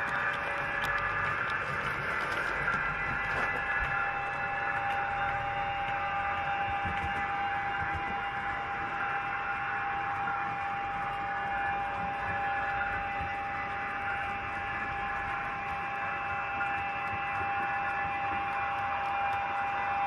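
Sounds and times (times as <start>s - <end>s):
electrical whine: 0.0s - 20.0s.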